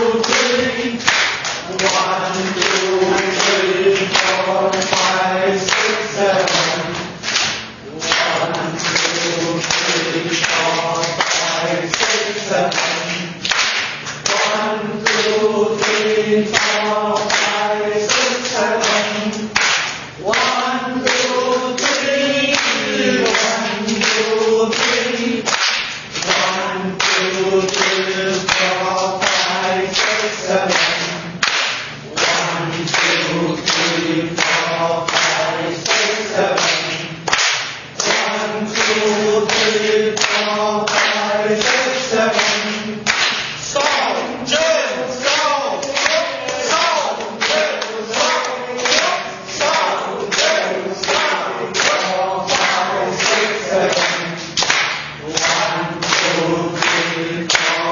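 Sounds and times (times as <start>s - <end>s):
group of voices singing: 0.0s - 57.9s
hands clapping rhythmically: 0.0s - 57.9s.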